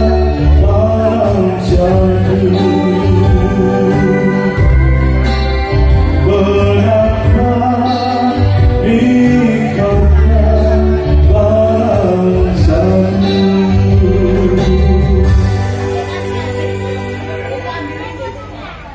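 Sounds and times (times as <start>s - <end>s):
man singing into a microphone: 0.0s - 17.6s
deep bass notes: 0.0s - 18.3s
electric guitar: 0.0s - 18.9s
keyboard: 0.0s - 18.9s.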